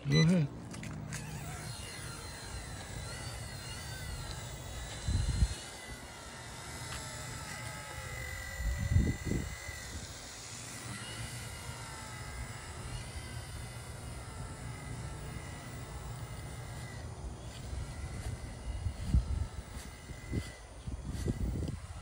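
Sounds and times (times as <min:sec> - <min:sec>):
model helicopter motor whine: 0:00.0 - 0:22.0.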